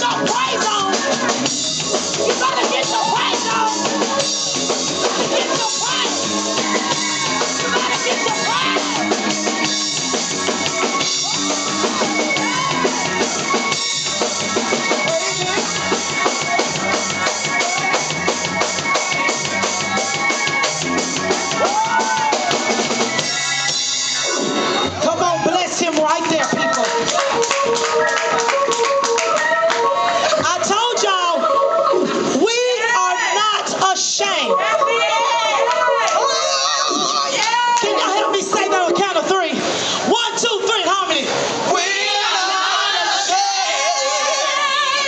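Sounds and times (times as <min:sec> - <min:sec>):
drum kit beat: 0:00.0 - 0:31.5, 0:33.7 - 0:40.2
gospel band music: 0:00.0 - 0:45.0.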